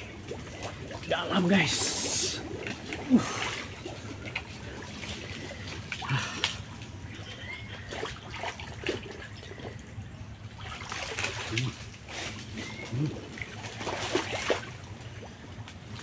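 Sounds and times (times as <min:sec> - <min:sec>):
muddy water sloshing and splashing: 0:00.0 - 0:16.0.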